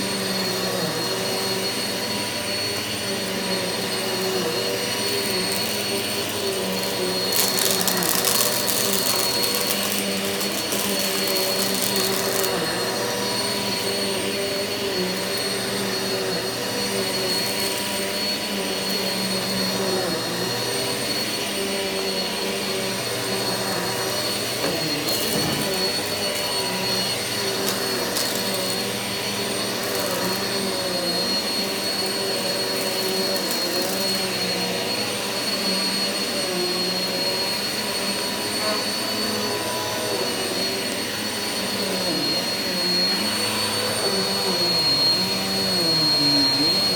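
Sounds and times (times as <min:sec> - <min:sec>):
vacuum cleaner on carpet: 0:00.0 - 0:46.9.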